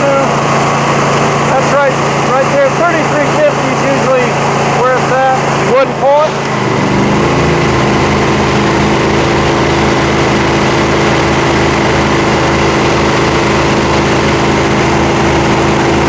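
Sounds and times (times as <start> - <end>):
pressure washer engine droning: 0.0 - 16.0.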